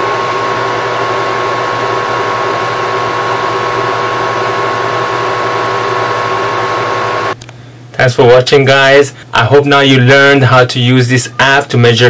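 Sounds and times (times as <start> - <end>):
air conditioner running: 0.0 - 12.0.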